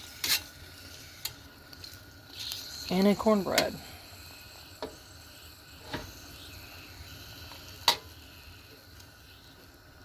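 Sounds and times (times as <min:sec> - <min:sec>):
water boiling in a pan: 0:00.0 - 0:10.0.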